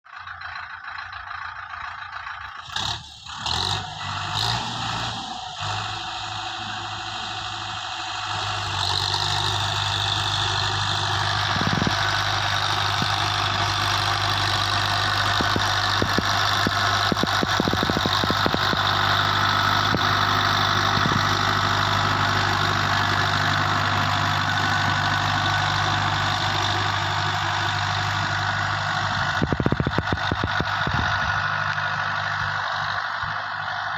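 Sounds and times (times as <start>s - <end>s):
tractor diesel engine: 0.0s - 33.9s.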